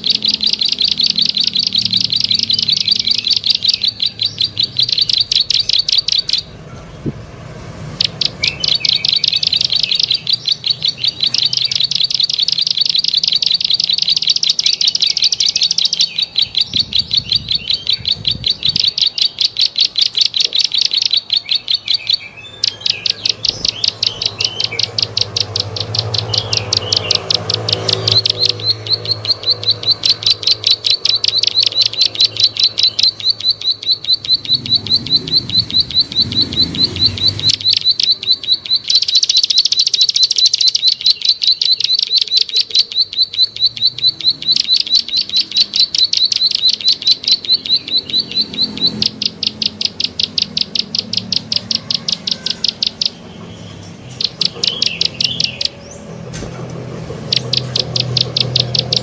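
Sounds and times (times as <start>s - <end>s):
bird rapid ticking calls: 0.0s - 59.0s.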